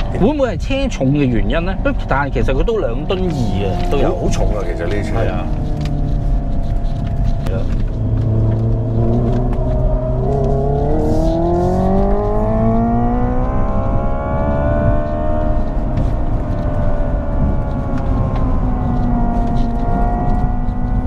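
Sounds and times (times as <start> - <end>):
road and tyre rumble: 0.0 - 21.0
simulated engine sound rising: 0.0 - 21.0.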